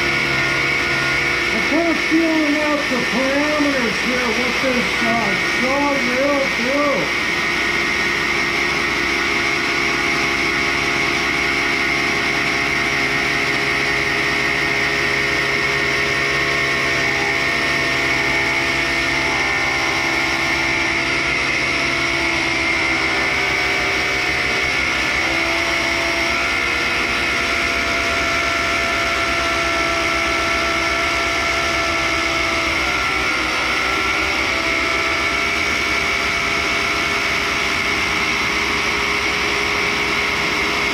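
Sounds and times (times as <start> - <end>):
dust vacuum running: 0.0 - 40.9
grinder wheel cutting carbide: 0.0 - 40.9.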